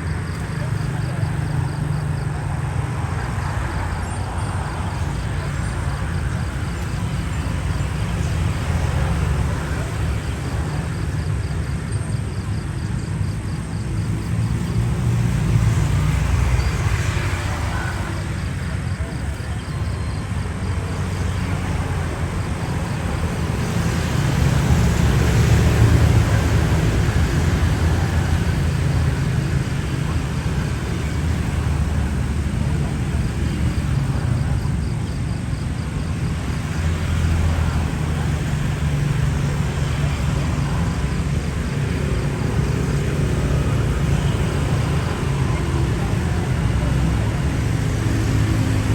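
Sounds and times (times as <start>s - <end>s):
jet engines rumbling: 0.0s - 48.9s.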